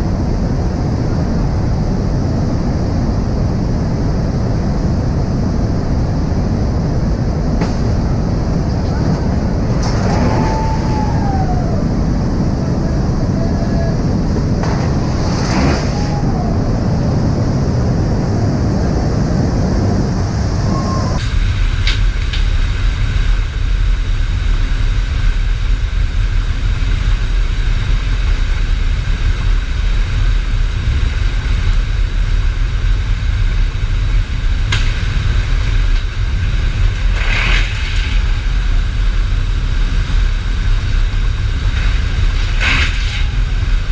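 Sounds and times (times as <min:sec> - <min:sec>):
aircraft engine drone: 0:00.0 - 0:43.9
rushing air: 0:00.0 - 0:43.9.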